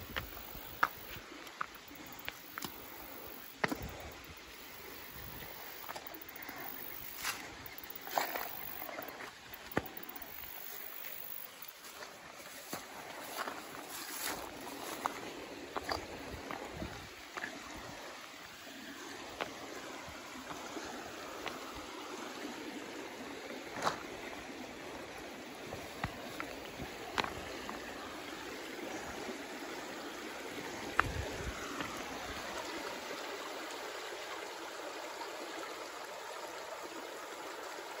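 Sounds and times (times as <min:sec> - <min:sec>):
creek trickling over stones: 0:00.0 - 0:38.0.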